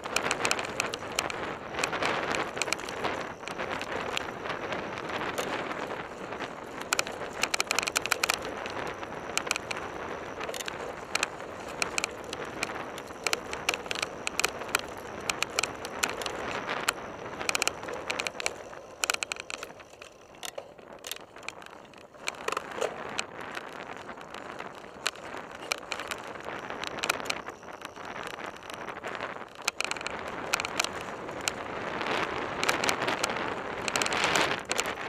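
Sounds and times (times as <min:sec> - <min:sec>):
bike parts rattling and knocking: 0:00.0 - 0:35.0
tyre noise on dirt: 0:00.0 - 0:35.0
wind noise: 0:00.0 - 0:35.0.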